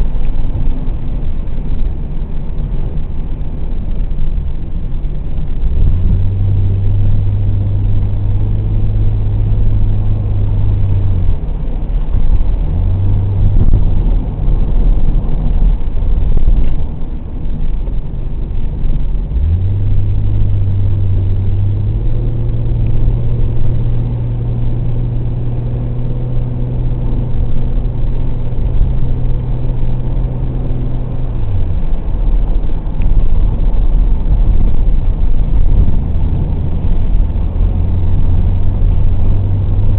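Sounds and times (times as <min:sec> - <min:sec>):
car engine droning: 0:00.0 - 0:39.9
road and wind noise: 0:00.0 - 0:39.9.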